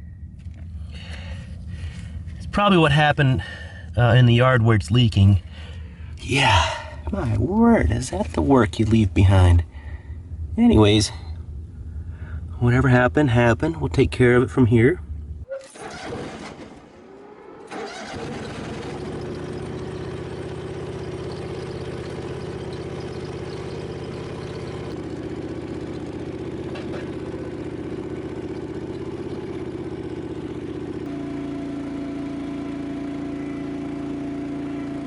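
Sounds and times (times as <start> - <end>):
loader engine running: 0.0 - 35.0.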